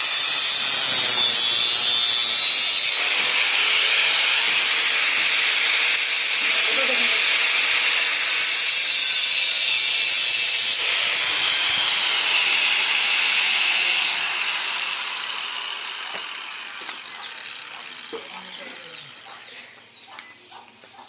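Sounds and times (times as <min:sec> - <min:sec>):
angle grinder grinding steel: 0:00.0 - 0:19.8.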